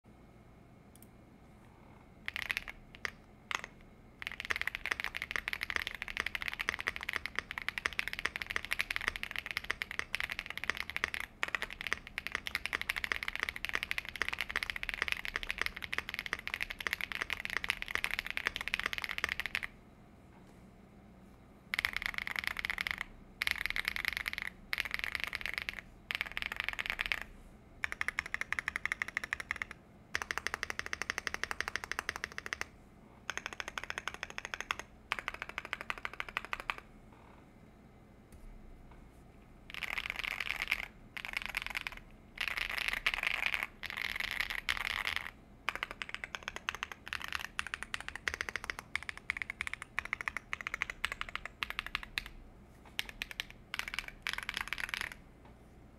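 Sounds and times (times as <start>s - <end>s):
mechanical keyboard typing: 2.2s - 19.8s, 21.7s - 37.3s, 39.7s - 55.2s.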